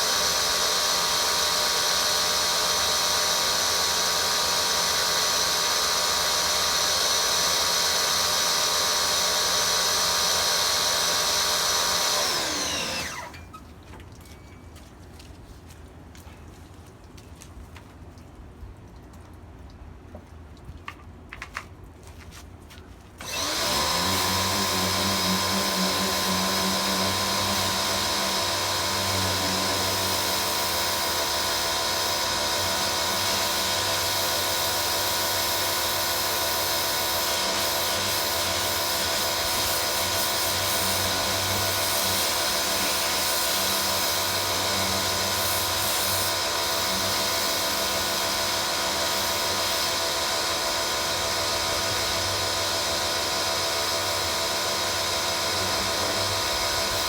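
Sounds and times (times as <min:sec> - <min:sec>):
electric motor whining: 0:00.0 - 0:13.6, 0:23.2 - 0:57.0.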